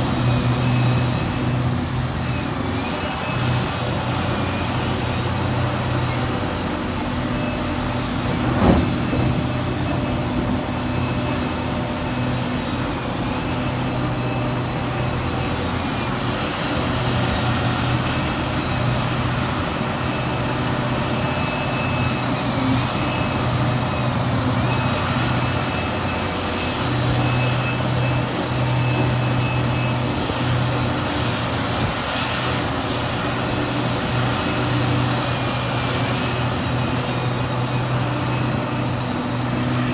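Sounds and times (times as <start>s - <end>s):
excavator diesel engine under load: 0.0s - 39.9s.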